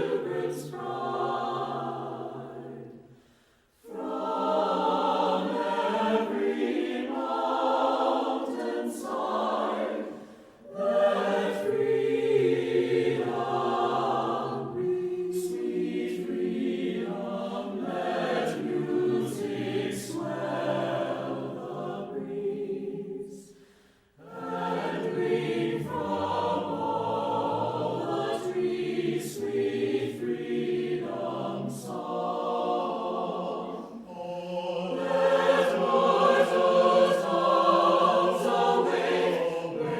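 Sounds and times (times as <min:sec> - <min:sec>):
choir singing held chords: 0:00.0 - 0:39.9.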